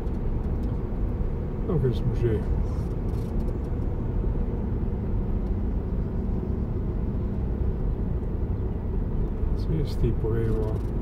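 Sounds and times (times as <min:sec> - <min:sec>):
car driving on asphalt: 0:00.0 - 0:11.0.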